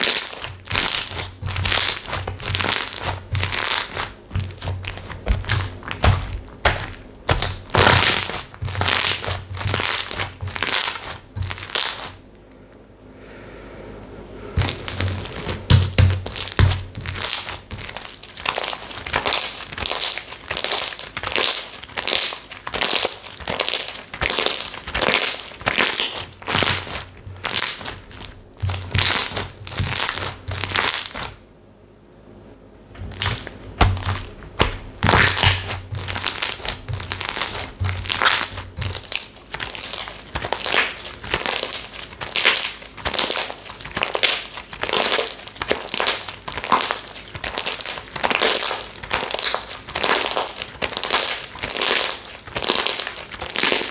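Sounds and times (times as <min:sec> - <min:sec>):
slime squished by hand crackling: 0:00.0 - 0:12.2, 0:14.6 - 0:31.4, 0:33.0 - 0:53.9.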